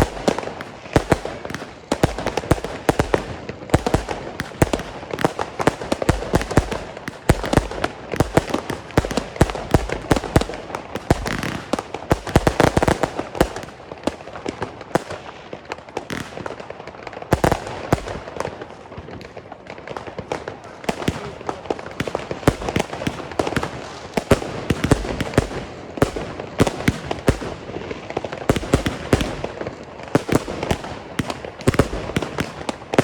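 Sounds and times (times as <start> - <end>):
loud fireworks bangs: 0.0 - 33.0.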